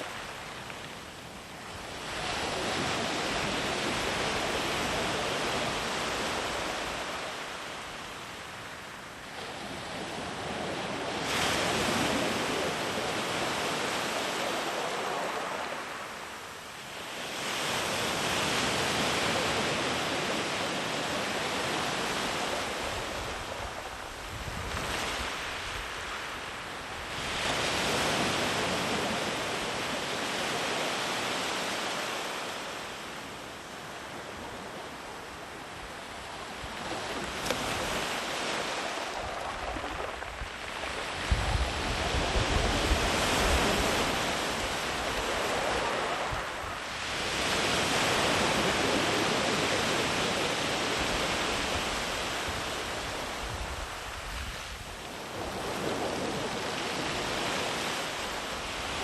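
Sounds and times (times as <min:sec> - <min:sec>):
sea waves breaking on beach: 0:00.0 - 0:59.0.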